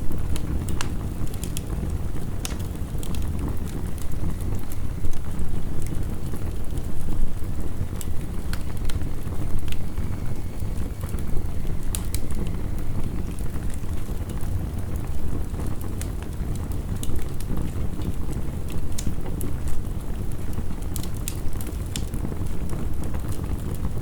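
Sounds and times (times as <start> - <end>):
heavy rain rumble: 0.0 - 24.0
wood fire crackling and popping: 0.0 - 24.0.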